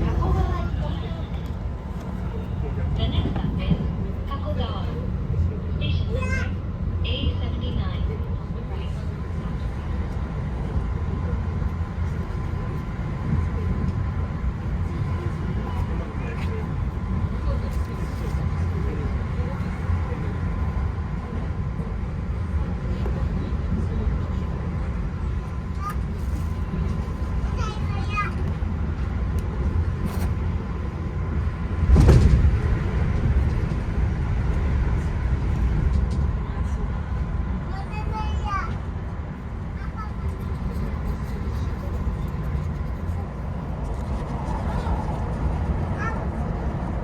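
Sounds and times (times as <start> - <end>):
electric train rumbling: 0.0 - 47.0.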